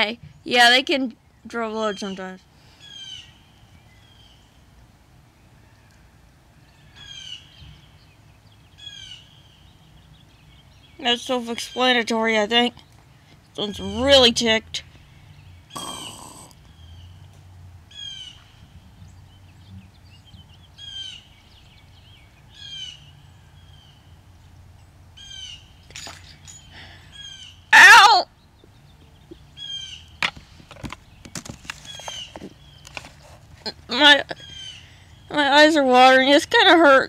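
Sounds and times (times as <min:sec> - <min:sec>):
small birds chirping: 0:00.0 - 0:04.8, 0:05.8 - 0:37.0.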